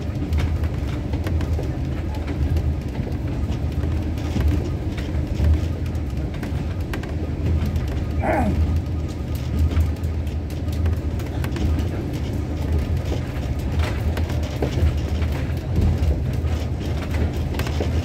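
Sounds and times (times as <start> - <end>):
clicks and rattles of train: 0.0 - 18.0
train rumble: 0.0 - 18.0.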